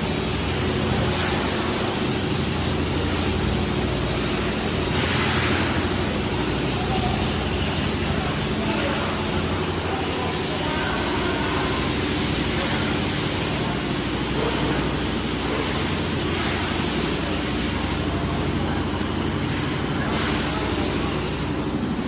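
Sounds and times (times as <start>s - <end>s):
machine hiss: 0.0s - 22.0s
machine hum: 0.0s - 22.0s.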